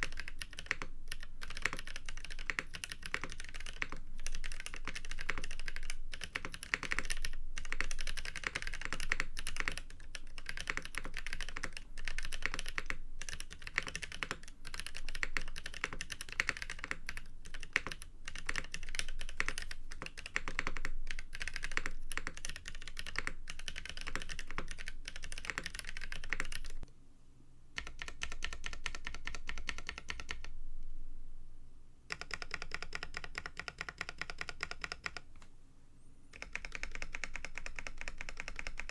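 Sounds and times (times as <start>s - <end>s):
mechanical keyboard typing: 0.0s - 26.9s, 27.8s - 30.5s, 32.1s - 35.4s, 36.3s - 38.9s.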